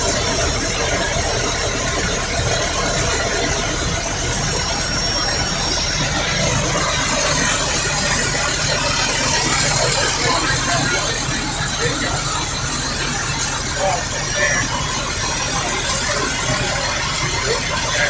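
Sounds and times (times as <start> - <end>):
continuous rumble and hiss: 0.0 - 18.0
vehicle engine running: 0.0 - 18.0.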